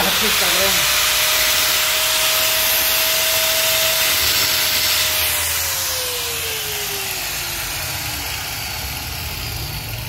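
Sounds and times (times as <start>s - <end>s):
angle grinder cutting stone: 0.0s - 10.0s
grinder disc spinning down: 0.0s - 10.0s.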